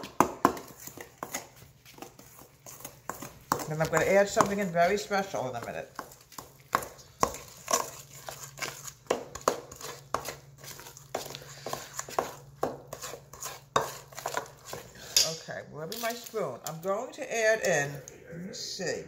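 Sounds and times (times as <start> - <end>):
spoon stirring batter in metal bowl: 0.0 - 18.8.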